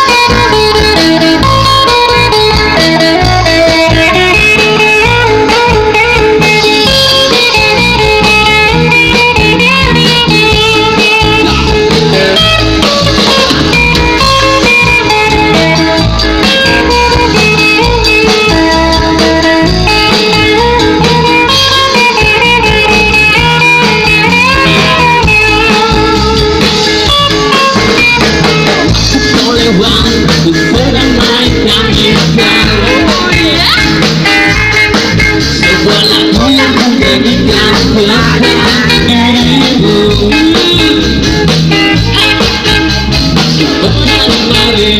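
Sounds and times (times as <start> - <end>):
instrumental band music: 0.0 - 44.9.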